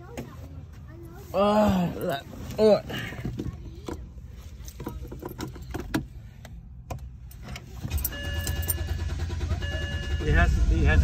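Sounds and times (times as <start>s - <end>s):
car engine cranking and starting: 1.7s - 11.0s.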